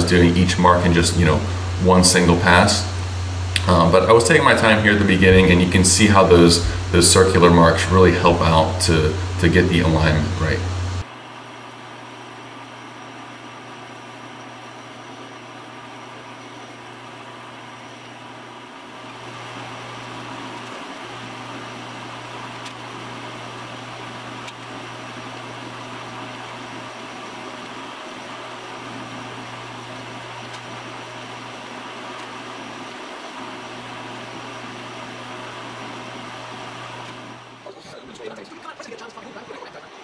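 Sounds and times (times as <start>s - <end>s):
machine spindle humming: 0.0s - 40.0s.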